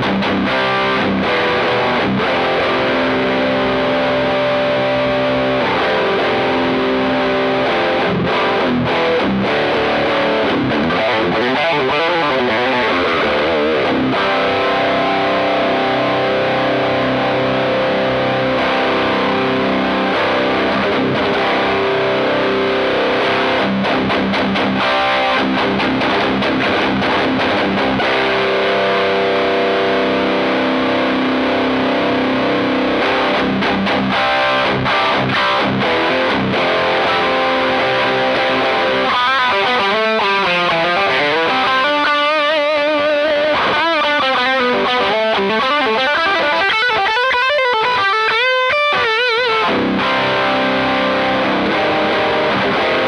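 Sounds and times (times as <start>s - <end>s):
distorted electric guitar riffing: 0.0s - 53.0s.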